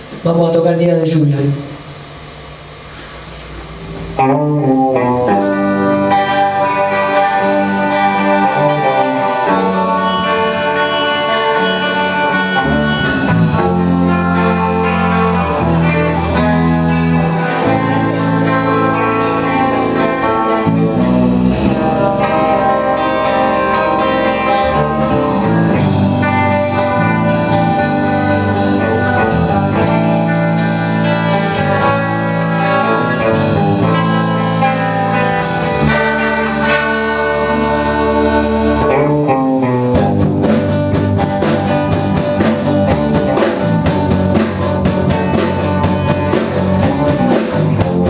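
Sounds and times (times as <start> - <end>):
bass line: 0.0 - 48.0
guitar: 0.0 - 48.0
steady drum beat: 1.2 - 39.0, 39.9 - 48.0.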